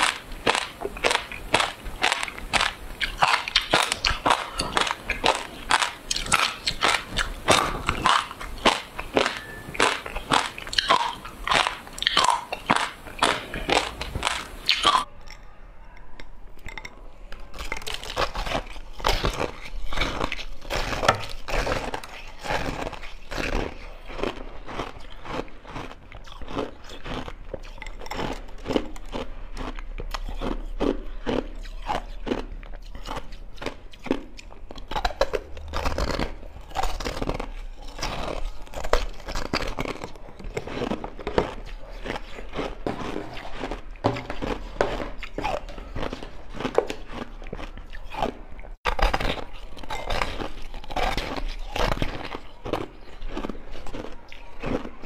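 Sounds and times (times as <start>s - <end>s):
person crunching ice: 0.0s - 15.1s, 17.6s - 55.0s.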